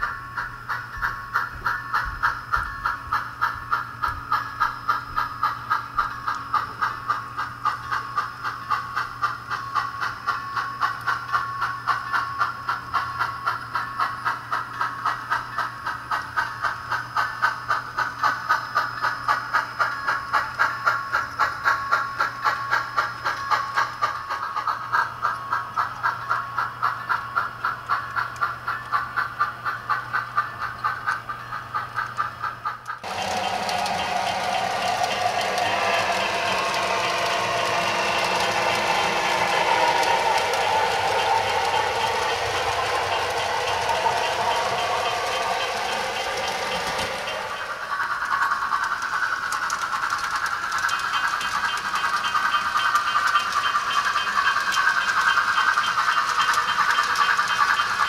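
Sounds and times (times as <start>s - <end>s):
model steam locomotive chuffing: 0.0s - 58.0s.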